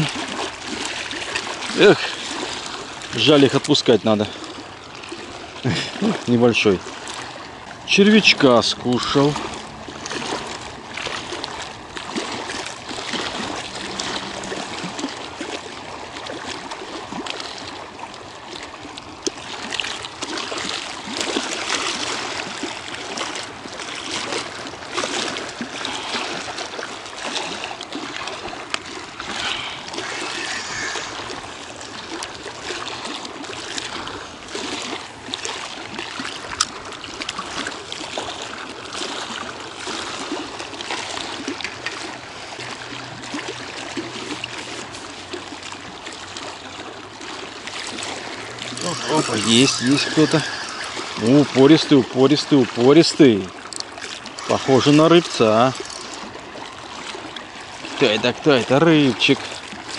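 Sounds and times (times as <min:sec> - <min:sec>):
waves lapping against concrete: 0:00.0 - 0:59.9.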